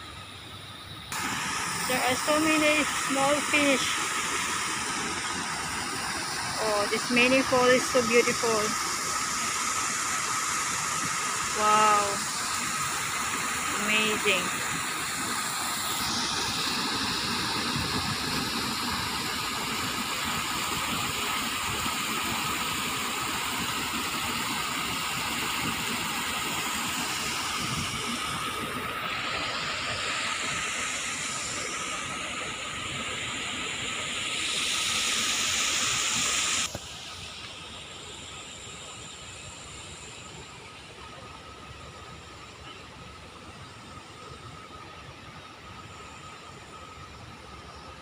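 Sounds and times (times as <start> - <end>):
water rushing and splashing: 0.0 - 48.0.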